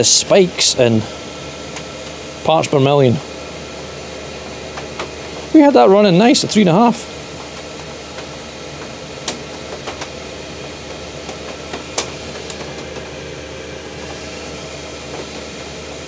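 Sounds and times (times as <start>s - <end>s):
air heater running: 0.0s - 16.0s.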